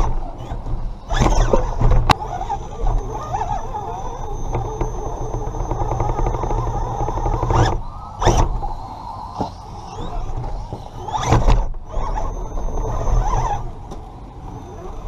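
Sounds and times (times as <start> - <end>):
electric motor whirring: 0.0 - 15.0.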